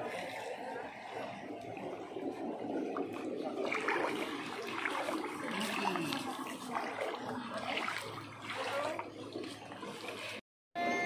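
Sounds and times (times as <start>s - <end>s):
water washing over pebbles: 0.0s - 10.4s.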